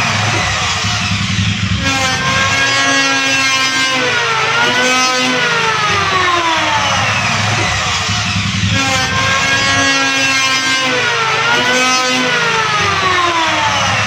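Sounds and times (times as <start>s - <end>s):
electric hand planer motor whine: 0.0s - 14.0s.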